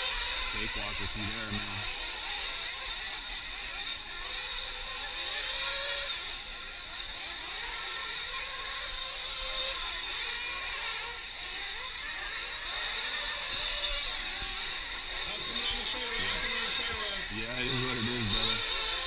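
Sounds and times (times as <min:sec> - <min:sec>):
small engines revving high: 0:00.0 - 0:19.0.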